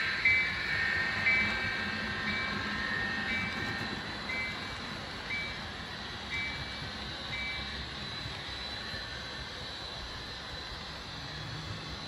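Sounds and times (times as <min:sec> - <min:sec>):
model train rumbling on track: 0:00.0 - 0:12.0.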